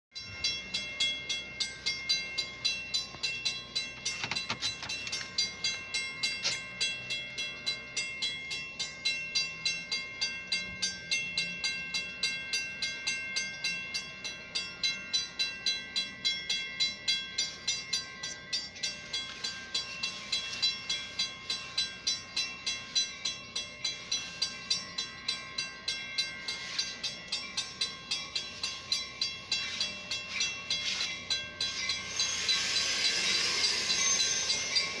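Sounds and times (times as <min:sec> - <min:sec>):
railroad crossing bell ringing: 0:00.1 - 0:35.0.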